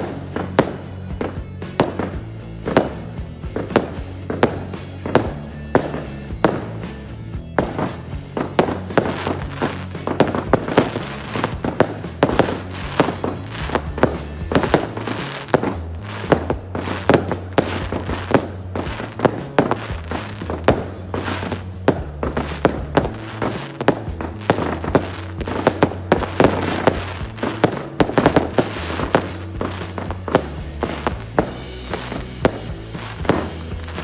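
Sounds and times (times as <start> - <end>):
fireworks bangs and crackles: 0.0 - 34.0
music with steady bass line: 0.0 - 34.0.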